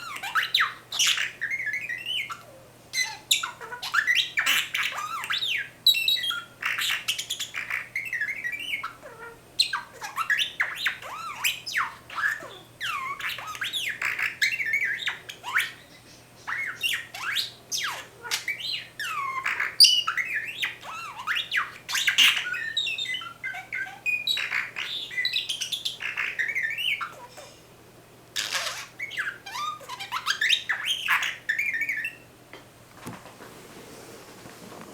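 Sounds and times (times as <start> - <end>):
budgerigar whistles and chirps: 0.0 - 27.6, 28.4 - 32.3.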